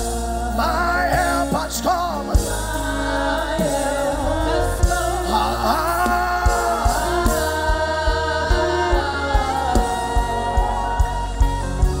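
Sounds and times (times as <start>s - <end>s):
bass: 0.0s - 12.0s
keyboard pad chords: 0.0s - 12.0s
low drum beat: 2.4s - 12.0s.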